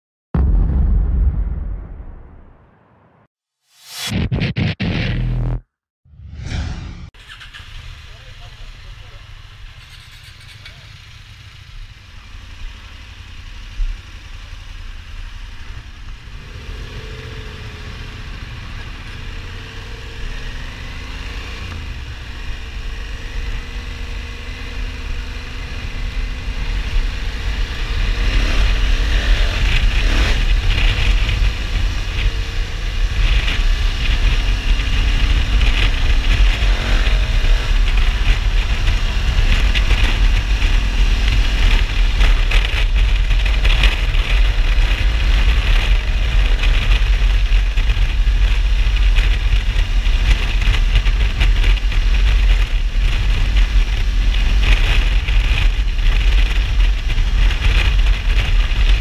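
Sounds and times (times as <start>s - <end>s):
motorcycle engine accelerating: 3.7s - 5.7s, 6.4s - 59.0s.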